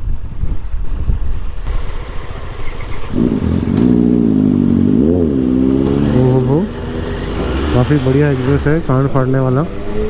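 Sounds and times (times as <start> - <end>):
motorcycle engine revving: 0.8 - 10.0.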